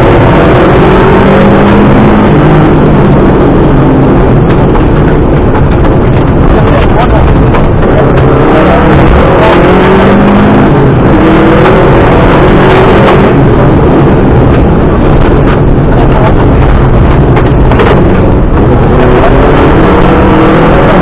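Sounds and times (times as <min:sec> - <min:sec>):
rally car engine running hard: 0:00.0 - 0:21.0.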